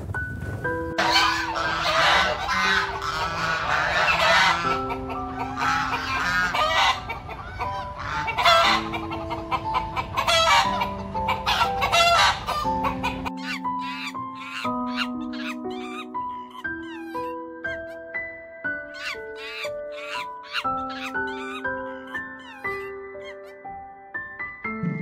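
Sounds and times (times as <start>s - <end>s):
background music: 0.0s - 25.0s
chickens clucking: 1.0s - 18.2s, 18.8s - 23.6s.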